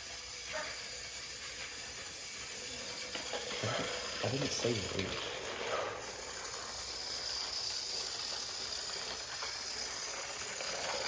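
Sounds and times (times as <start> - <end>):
thin high whine: 0.0 - 11.0
toy train motor whirring: 0.0 - 11.0.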